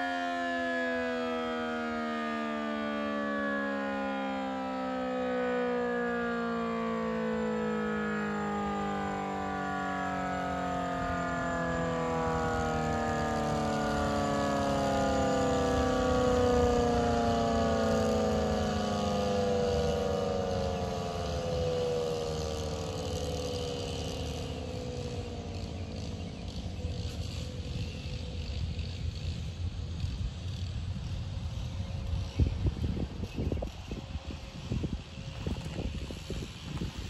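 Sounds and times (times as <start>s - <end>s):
tornado siren winding down: 0.0s - 37.0s
low rumble of wind: 5.2s - 37.0s.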